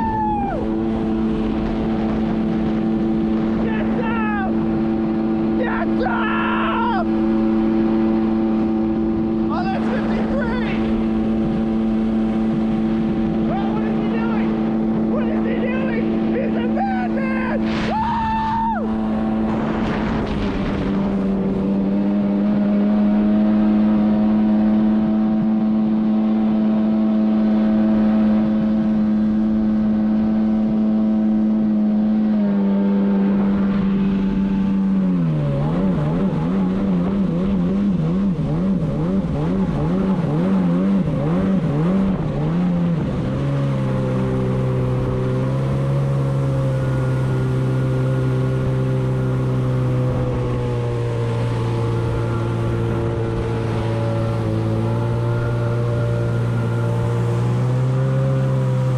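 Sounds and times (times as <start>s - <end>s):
jet ski engine revving: 0.0s - 58.9s.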